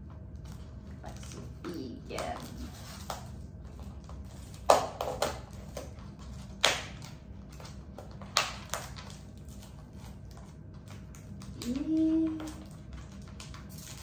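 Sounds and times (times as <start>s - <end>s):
faint steady hum: 0.0s - 14.0s
plastic packaging crinkling: 0.1s - 14.0s.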